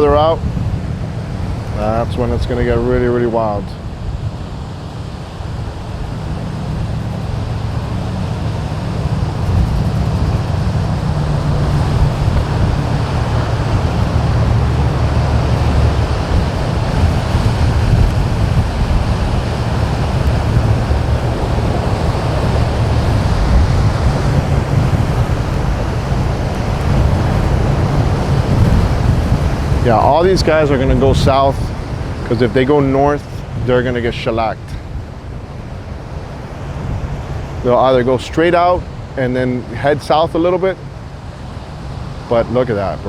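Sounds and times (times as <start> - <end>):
surf rushing: 0.0 - 43.0
wind buffeting microphone: 0.0 - 43.0.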